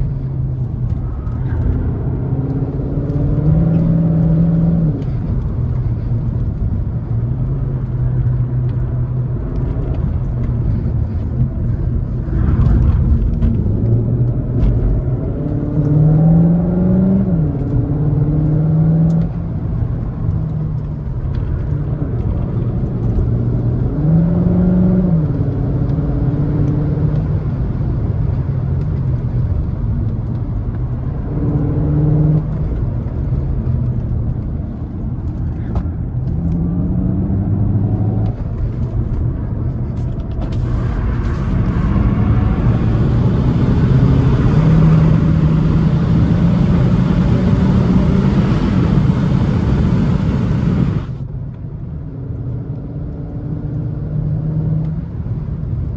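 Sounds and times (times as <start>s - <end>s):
car engine revving with gear changes: 0.0s - 51.4s.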